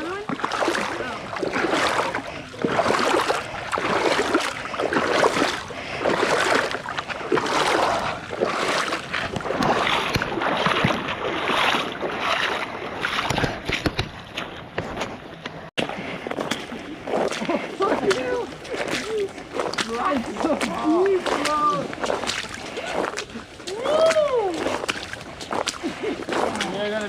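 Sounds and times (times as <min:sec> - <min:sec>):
footsteps splashing through water: 0:00.0 - 0:27.0.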